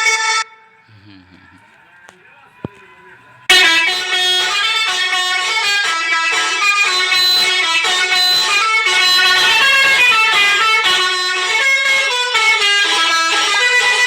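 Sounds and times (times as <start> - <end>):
multi-tone vehicle horn tune: 0.0 - 0.8, 3.5 - 14.0.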